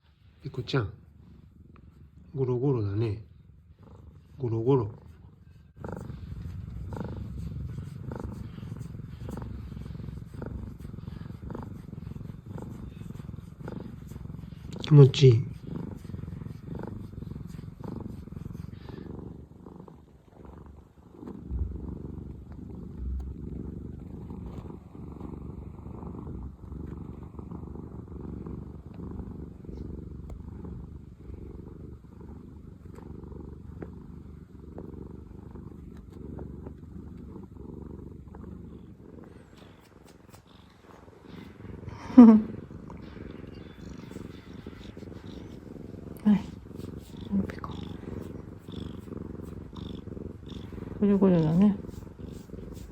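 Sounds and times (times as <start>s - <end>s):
cat purring: 0.0s - 52.9s.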